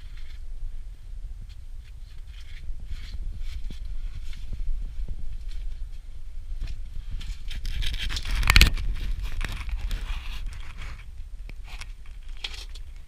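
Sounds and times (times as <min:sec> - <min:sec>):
scraping and crunching on rock: 0:01.5 - 0:13.0.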